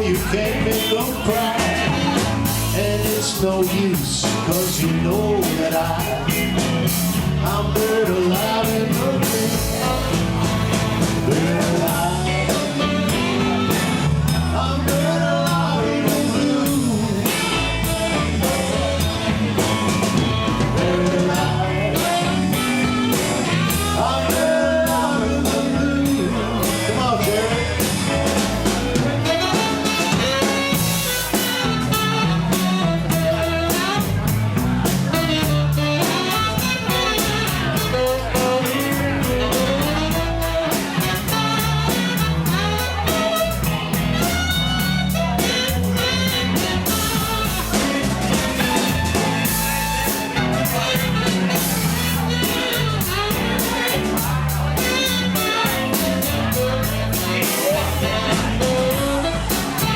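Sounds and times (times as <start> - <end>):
blues-rock band playing: 0.0 - 59.9.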